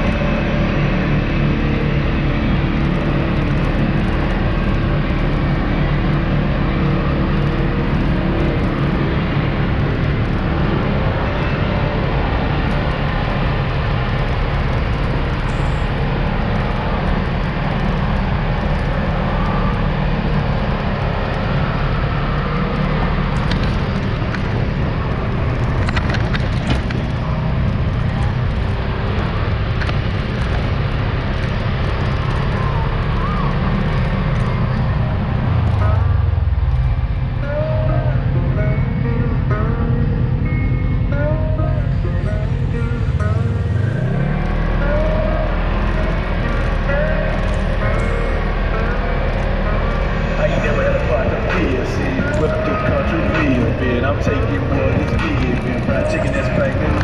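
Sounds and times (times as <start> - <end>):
off-road vehicle engine running: 0.0 - 57.0
tyre noise on dirt road: 0.0 - 57.0.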